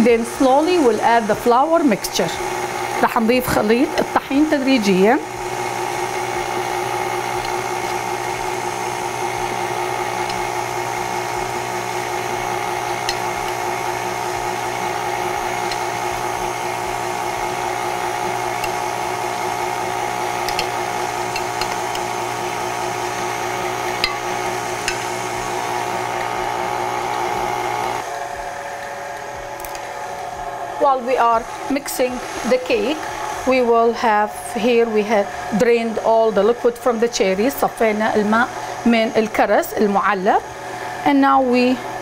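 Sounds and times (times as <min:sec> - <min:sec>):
electric mixer motor running: 0:00.0 - 0:42.0.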